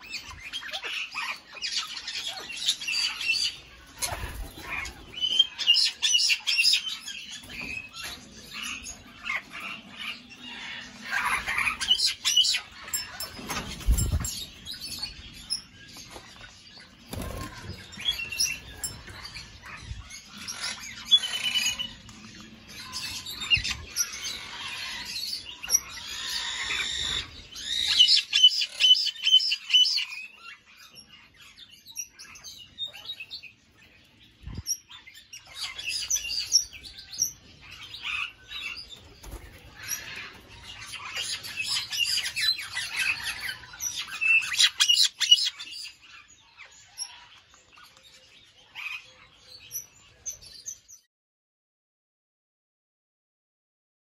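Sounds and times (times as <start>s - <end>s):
parrots and birds chattering: 0.0s - 51.0s.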